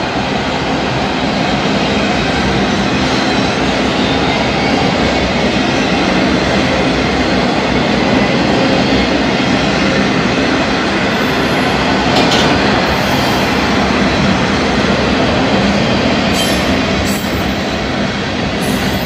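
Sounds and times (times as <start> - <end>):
steel wheels on rail: 0.0 - 19.0.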